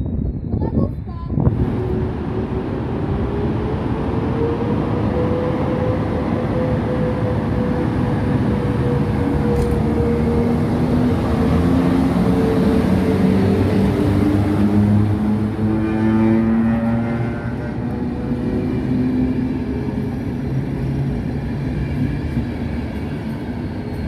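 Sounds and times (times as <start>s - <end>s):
wheel and rail rumble: 0.2s - 24.0s
locomotive whine: 1.4s - 24.0s.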